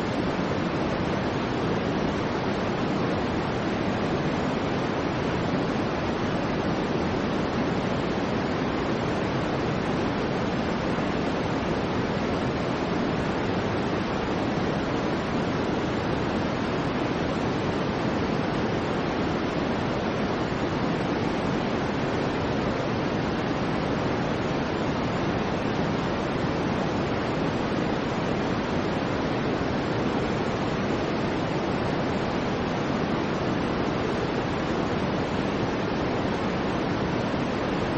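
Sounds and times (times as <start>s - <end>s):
low white noise hiss: 0.0s - 37.9s.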